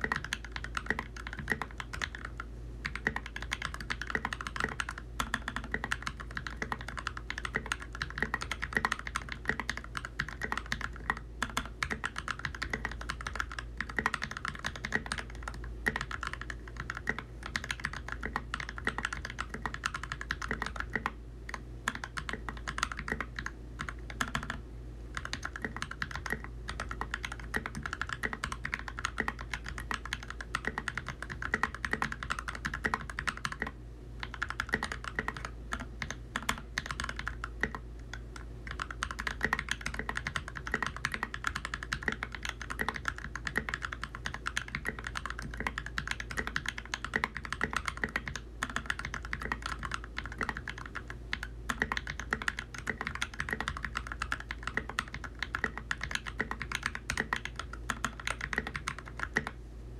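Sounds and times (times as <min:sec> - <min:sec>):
fast typing on mechanical keyboard: 0:00.0 - 0:59.6.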